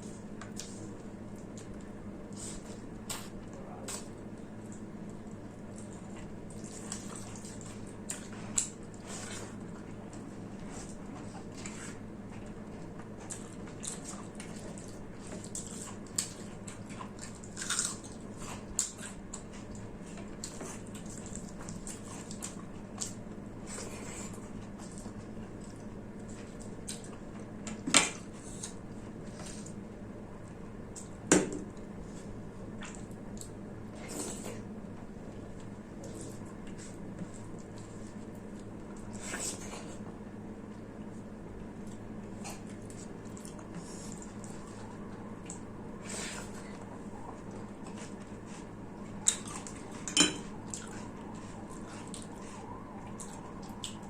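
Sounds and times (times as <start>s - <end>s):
person chewing food: 0.0s - 29.8s, 30.4s - 54.0s
steady low hum: 0.0s - 54.0s.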